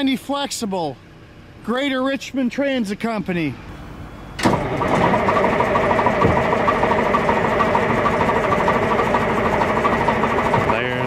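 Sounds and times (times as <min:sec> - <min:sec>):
diesel bus engine starting and running: 0:00.0 - 0:11.0.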